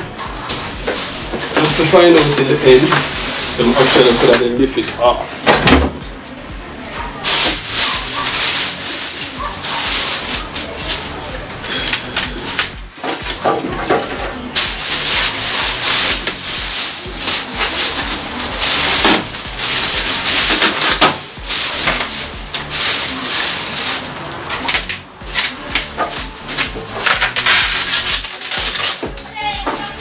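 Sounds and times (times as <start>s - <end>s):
plastic wrapping crinkling: 0.0s - 5.6s, 6.2s - 30.0s.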